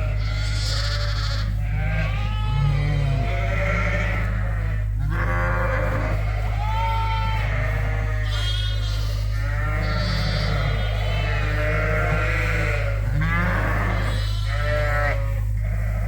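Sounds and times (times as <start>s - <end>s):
sheep and lambs bleating: 0.0s - 16.0s
steady low hum: 0.0s - 16.0s.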